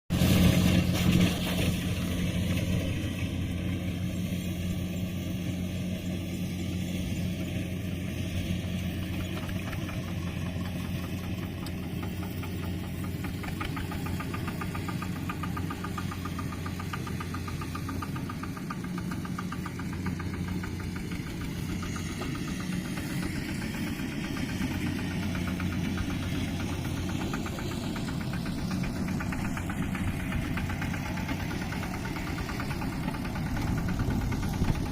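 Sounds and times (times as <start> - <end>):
tractor engine knocking: 0.2 - 34.9.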